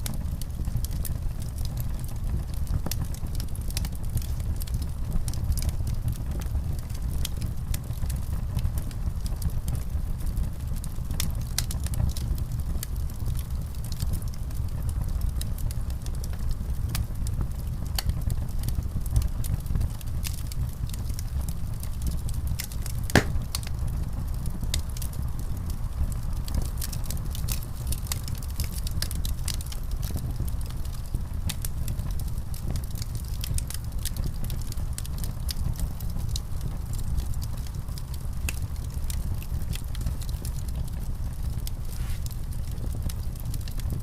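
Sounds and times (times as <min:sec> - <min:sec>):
wood fire crackling and popping: 0:00.0 - 0:44.0.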